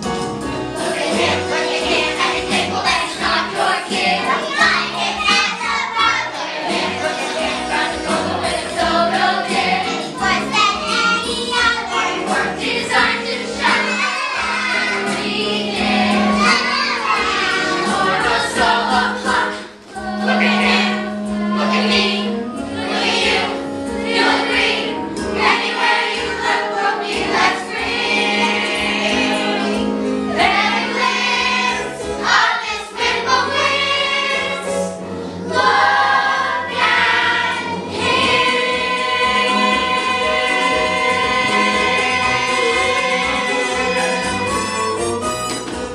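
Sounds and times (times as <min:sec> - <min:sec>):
instrumental accompaniment: 0:00.0 - 0:45.9
children singing in chorus: 0:00.8 - 0:34.8, 0:35.4 - 0:44.8.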